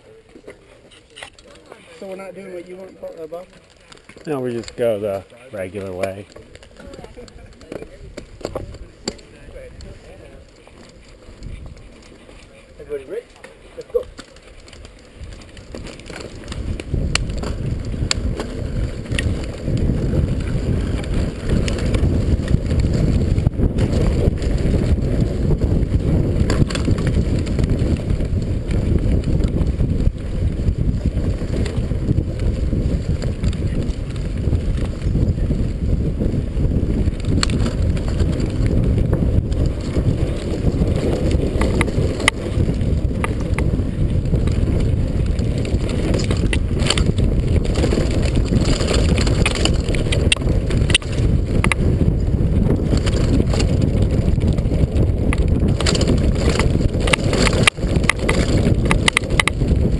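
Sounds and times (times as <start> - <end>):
bike tyres rumbling on dirt: 0.0 - 59.9
bike clicks and knocks: 3.0 - 59.9
wind buffeting microphone: 4.1 - 13.3, 13.9 - 59.9.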